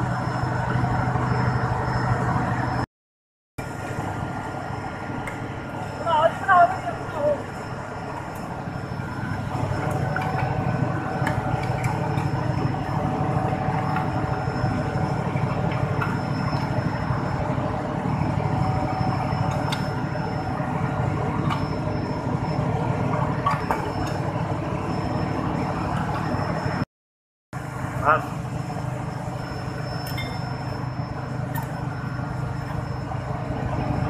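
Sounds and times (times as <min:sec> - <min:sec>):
machinery drone with whine: 0:00.0 - 0:02.9, 0:03.6 - 0:26.9, 0:27.6 - 0:34.0.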